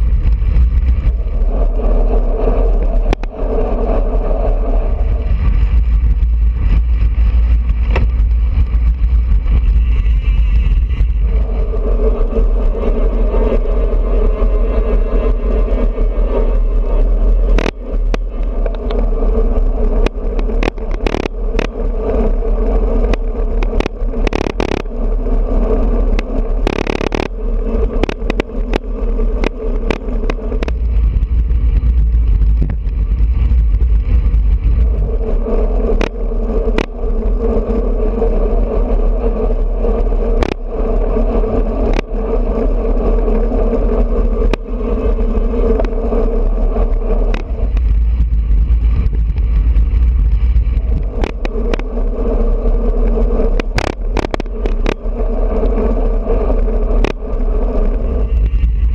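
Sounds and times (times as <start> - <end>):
bike ticks and rattles: 0.0 - 58.9
tyres humming on road: 0.0 - 58.9
wind rushing over microphone: 0.0 - 58.9.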